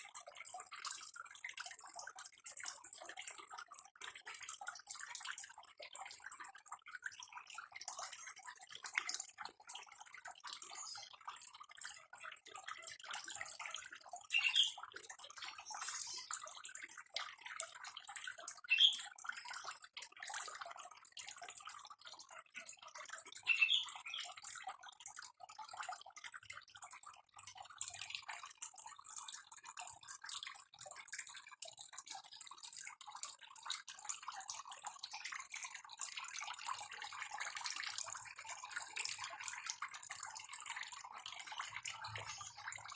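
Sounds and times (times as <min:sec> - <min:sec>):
water trickling and dripping: 0:00.0 - 0:42.9
louder water drips: 0:00.3 - 0:42.9.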